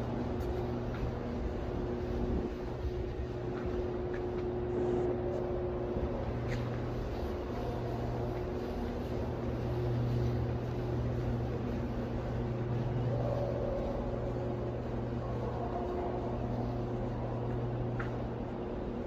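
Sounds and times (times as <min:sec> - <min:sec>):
low mechanical hum and rumble: 0:00.0 - 0:19.0.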